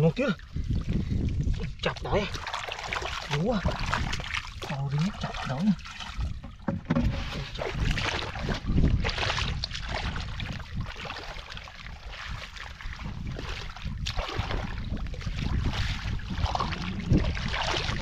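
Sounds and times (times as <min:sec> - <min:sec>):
hands splashing in muddy water: 0:00.8 - 0:18.0.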